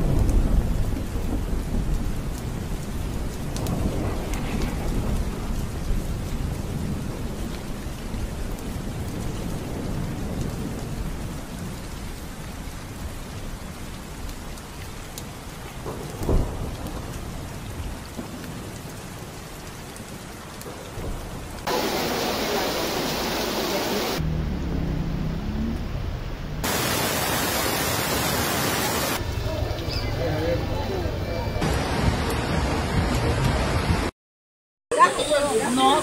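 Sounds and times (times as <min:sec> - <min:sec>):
heavy rain on a flooded street: 0:00.0 - 0:34.1.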